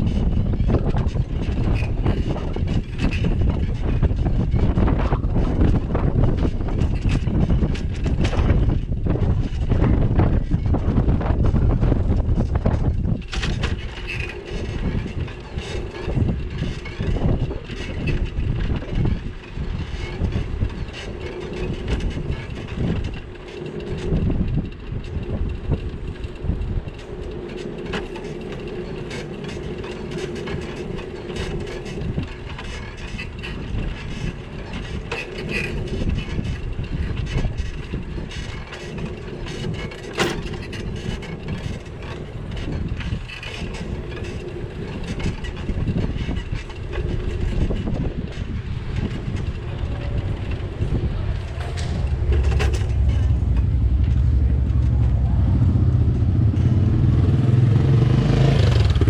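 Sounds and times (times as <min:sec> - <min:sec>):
bicycle rumble and rattle: 0:00.0 - 0:59.0
deeper rumble: 0:00.0 - 0:59.0.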